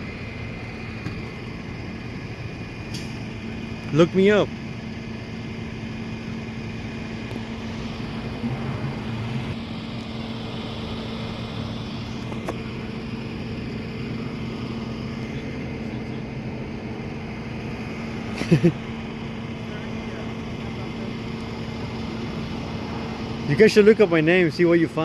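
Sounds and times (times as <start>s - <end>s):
road traffic noise: 0.0s - 25.0s
vehicle engine idling: 0.0s - 25.0s.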